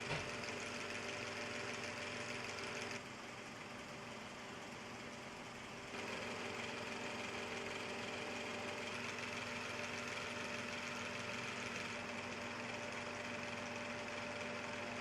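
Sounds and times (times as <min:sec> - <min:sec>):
vacuum cleaner running: 0:00.0 - 0:03.0, 0:05.9 - 0:15.0.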